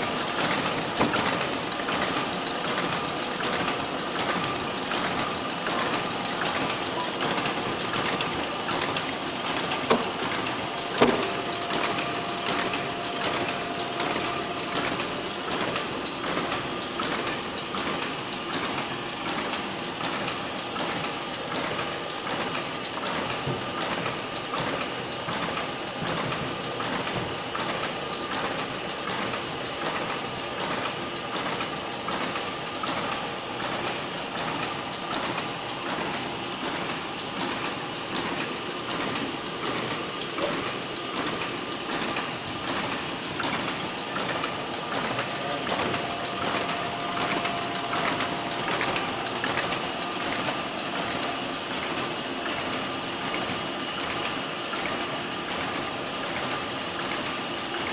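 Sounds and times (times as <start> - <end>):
folding machine clatter: 0.0 - 57.9.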